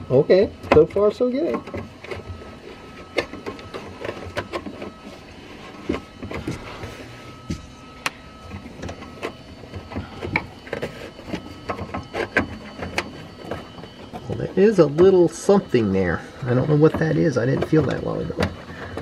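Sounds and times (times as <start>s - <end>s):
faint steady high tone: 0.0s - 19.0s.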